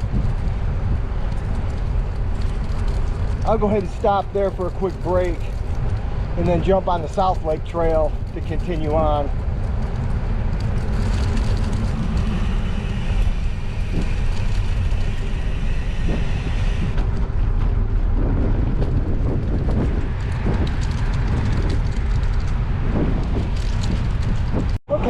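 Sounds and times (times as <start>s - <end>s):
bicycle tyre road noise: 0.0s - 25.0s
wind rumbling on microphone: 0.0s - 25.0s.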